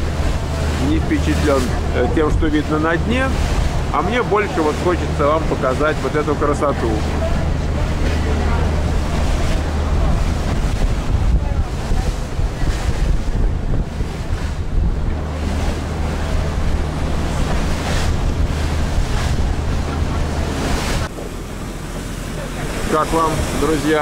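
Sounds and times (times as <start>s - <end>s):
boat engine drone: 0.0s - 24.0s
water rushing against hull: 0.0s - 24.0s
wind buffeting microphone: 0.0s - 24.0s.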